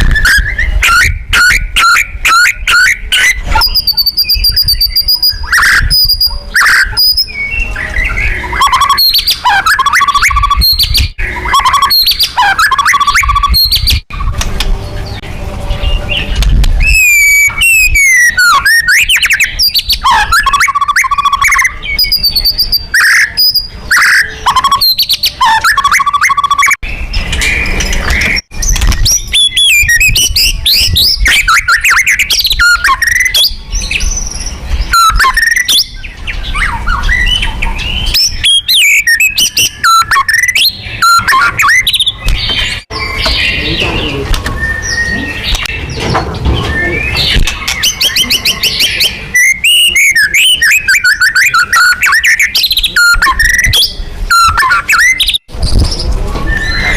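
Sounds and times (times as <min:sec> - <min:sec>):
bird singing whistles and trills: 0:00.0 - 0:56.9.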